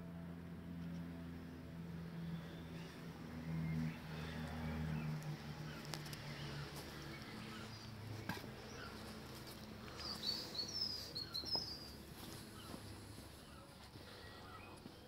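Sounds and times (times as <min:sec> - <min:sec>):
faint outdoor background noise: 0:00.0 - 0:15.0
low steady hum: 0:00.0 - 0:15.0
small birds chirping: 0:02.2 - 0:15.0.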